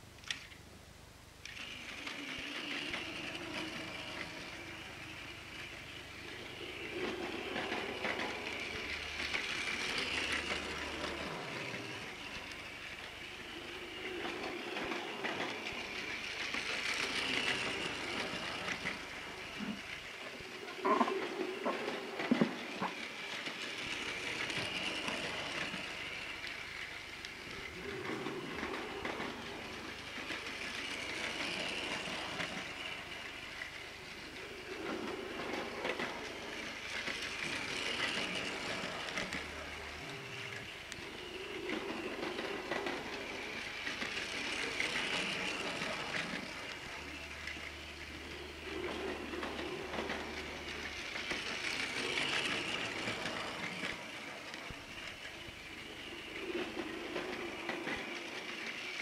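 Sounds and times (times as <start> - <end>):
toy train motor whirring: 0.2 - 0.6, 1.4 - 59.0
wheels rattling over plastic track: 1.4 - 59.0.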